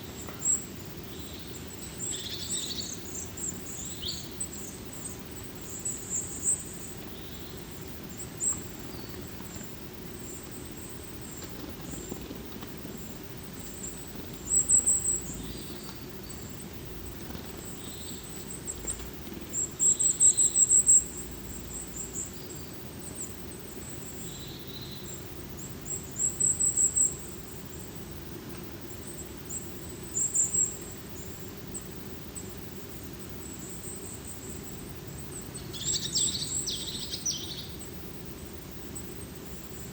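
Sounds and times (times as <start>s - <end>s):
small birds high thin calls: 0.0s - 39.9s.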